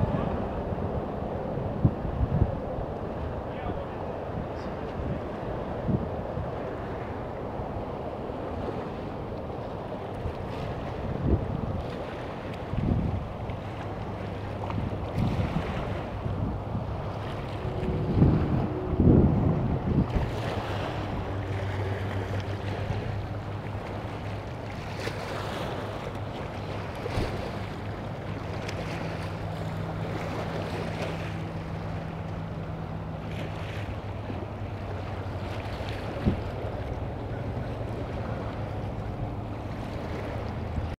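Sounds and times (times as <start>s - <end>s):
wind on the microphone: 0.0s - 31.2s, 33.3s - 41.0s
higher hum: 0.0s - 41.0s
steady low hum: 0.0s - 41.0s
water lapping against a seawall: 0.0s - 41.0s.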